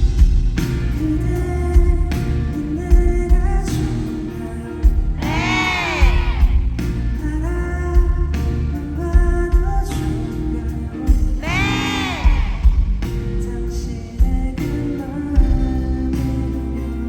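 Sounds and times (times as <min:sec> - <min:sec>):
live pop-rock band playing: 0:00.0 - 0:17.0
person singing: 0:00.9 - 0:17.0.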